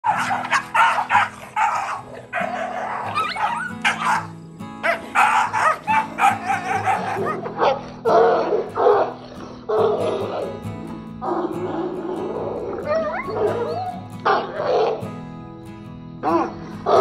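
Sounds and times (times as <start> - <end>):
dogs yelping: 0.0 - 10.6, 11.2 - 15.0, 16.2 - 17.0
dogs snarling and barking: 0.0 - 15.1, 16.2 - 17.0
background music: 0.0 - 17.0.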